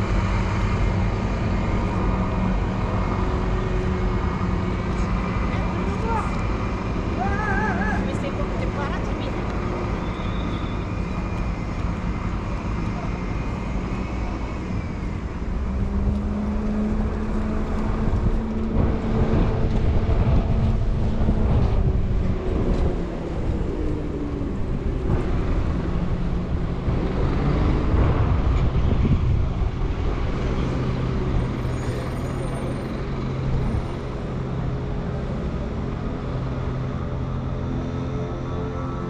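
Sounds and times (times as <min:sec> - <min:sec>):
diesel bus engines droning: 0:00.0 - 0:39.0.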